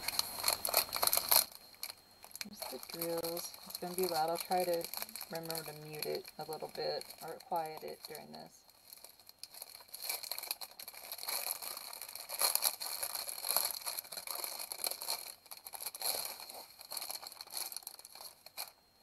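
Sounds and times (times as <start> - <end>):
plastic crinkling: 0.0 - 18.8
small beads rattling in packets: 0.0 - 18.8.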